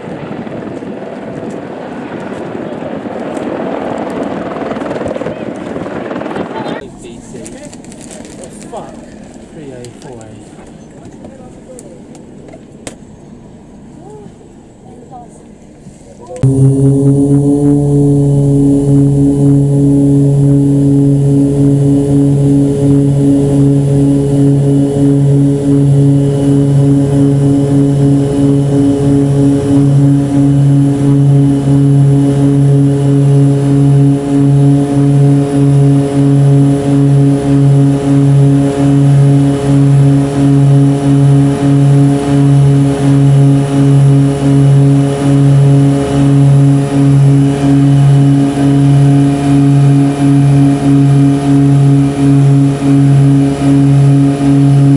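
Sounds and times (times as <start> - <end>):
propeller plane engine droning: 0.0 - 54.9.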